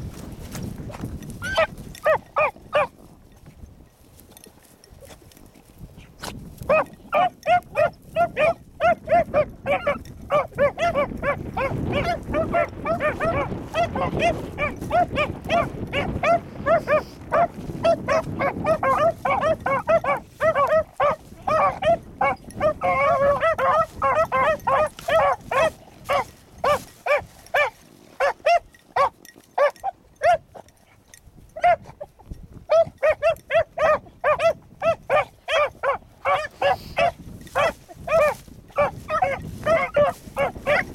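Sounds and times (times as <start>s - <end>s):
wind rumbling on microphone: 0.0s - 40.9s
dogs baying: 1.4s - 3.0s, 6.7s - 40.9s.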